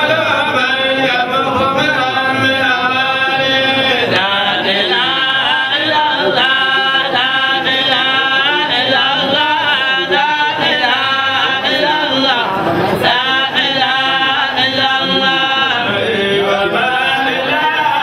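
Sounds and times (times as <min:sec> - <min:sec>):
men chanting devotional song: 0:00.0 - 0:18.0.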